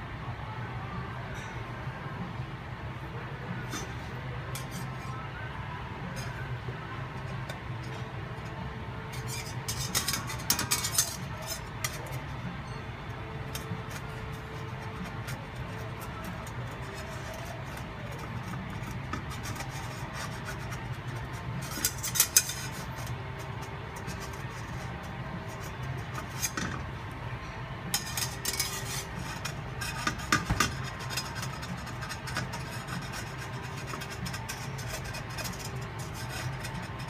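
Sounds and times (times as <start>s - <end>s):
steady low hum: 0.0s - 37.0s
metal spatula scraping frying pan: 3.6s - 5.2s, 7.2s - 37.0s.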